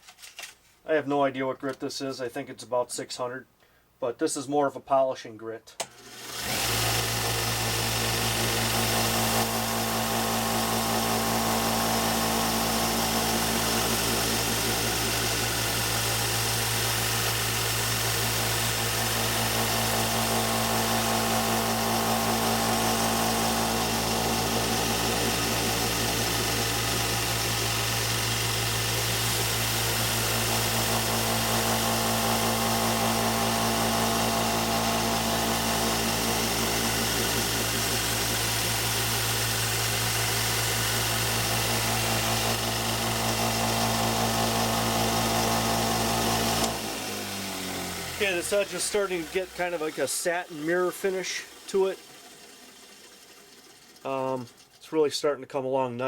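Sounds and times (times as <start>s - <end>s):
belt sander motor hum: 5.9s - 54.8s.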